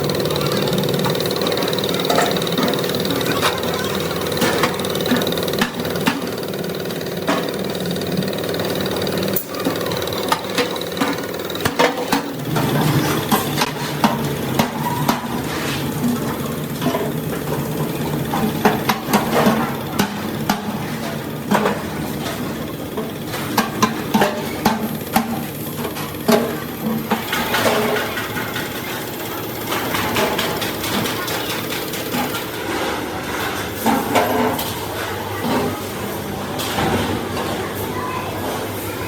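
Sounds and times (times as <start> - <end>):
small engine running: 0.0 - 34.8.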